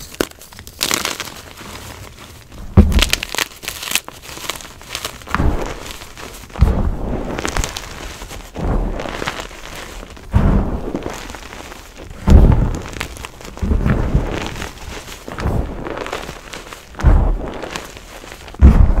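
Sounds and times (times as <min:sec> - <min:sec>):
hands squeezing chalk powder: 0:00.0 - 0:19.0.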